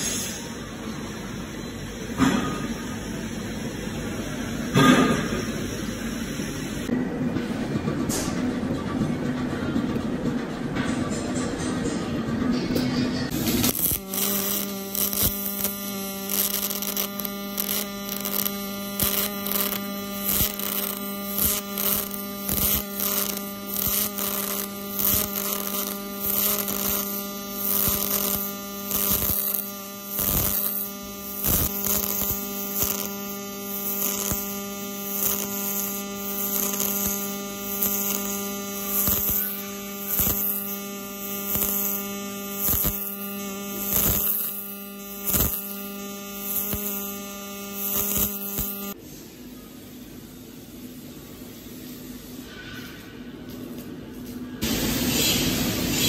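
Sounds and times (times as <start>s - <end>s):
welding arc buzzing and crackling: 0.0s - 7.0s, 13.3s - 49.0s, 50.7s - 56.0s.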